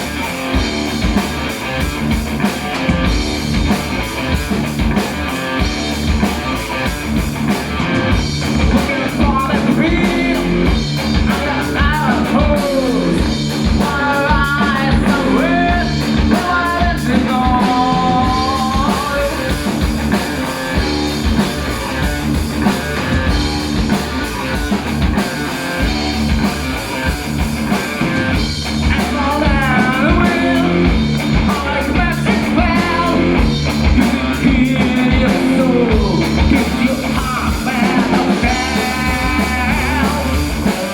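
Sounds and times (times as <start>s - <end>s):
heavy metal band playing live: 0.0s - 40.9s
lead guitar lines bending: 0.0s - 40.9s.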